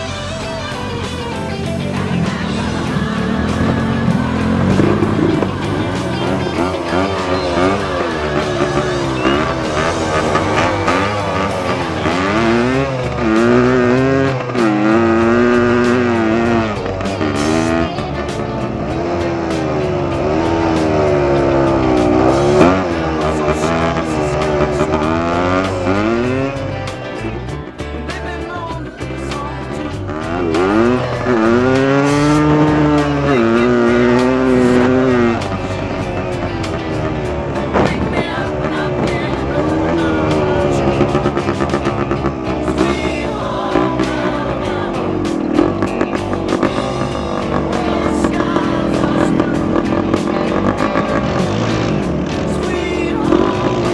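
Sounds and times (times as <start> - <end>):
dirt bike engine revving: 0.0 - 53.9
music playing: 0.0 - 53.9.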